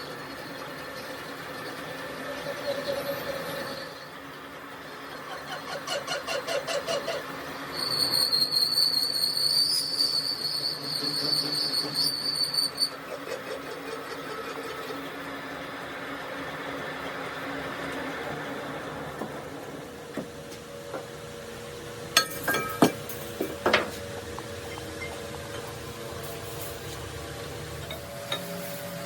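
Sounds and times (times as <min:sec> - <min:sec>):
high-pitched machine whine: 0:00.0 - 0:29.0
workshop machinery noise: 0:00.0 - 0:29.0.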